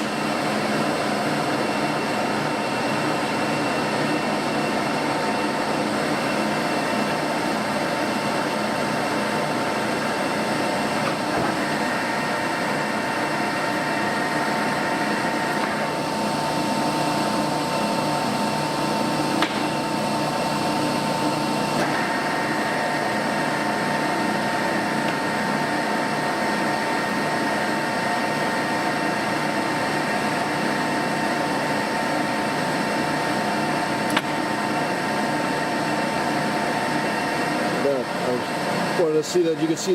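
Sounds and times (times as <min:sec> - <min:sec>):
lathe gear whine: 0:00.0 - 0:39.9.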